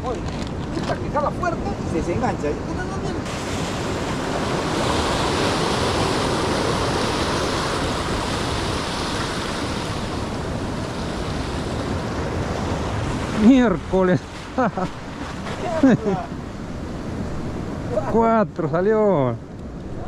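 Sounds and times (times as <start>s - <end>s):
ocean surf breaking on rocks: 0.0s - 20.0s.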